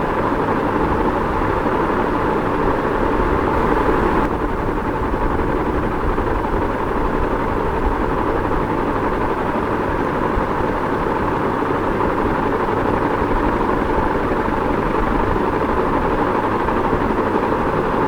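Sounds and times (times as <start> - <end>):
ceiling fan running: 0.0 - 18.0.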